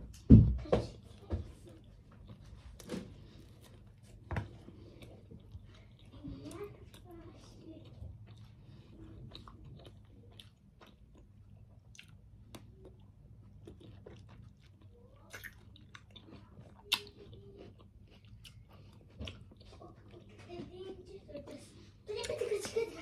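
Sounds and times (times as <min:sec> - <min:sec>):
faint low hum: 0:00.0 - 0:23.0
person chewing food: 0:01.1 - 0:22.4.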